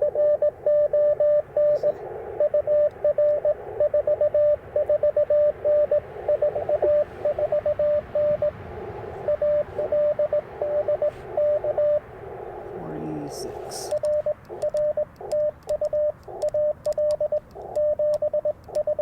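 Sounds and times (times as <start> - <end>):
faint wavering radio signals: 0.0 - 19.0
morse code beeps: 0.0 - 19.0
radio receiver hiss: 0.0 - 19.0.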